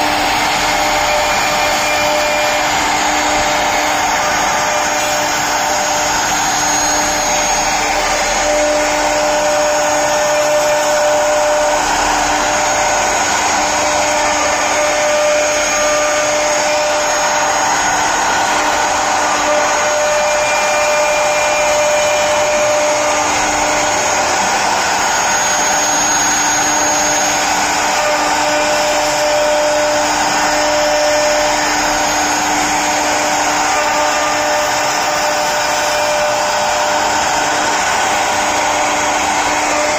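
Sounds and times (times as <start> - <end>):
router spindle whine: 0.0 - 39.9
wood cutting noise: 0.0 - 39.9.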